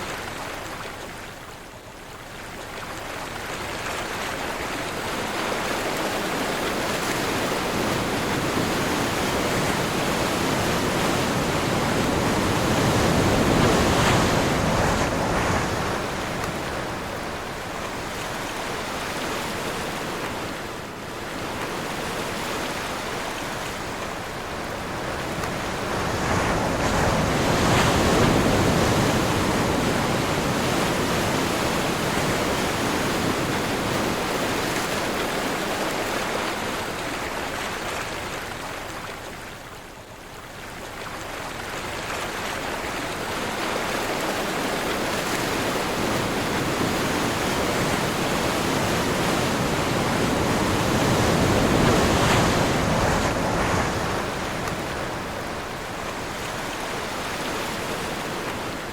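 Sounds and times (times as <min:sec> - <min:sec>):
wind: 0:00.0 - 0:58.9
ocean waves breaking: 0:02.8 - 0:58.9.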